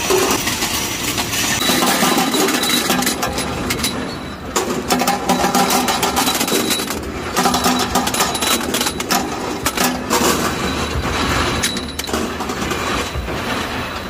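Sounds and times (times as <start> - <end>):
bolts clattering down metal chute: 0.0 - 14.0
machinery clanking: 0.0 - 14.0.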